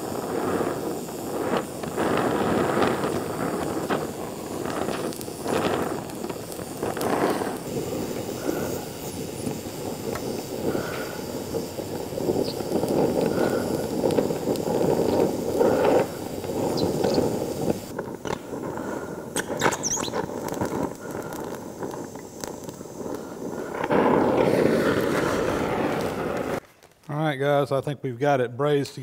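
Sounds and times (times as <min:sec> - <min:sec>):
torch flame rushing: 0:00.0 - 0:26.7
sharp crackles: 0:00.0 - 0:27.7.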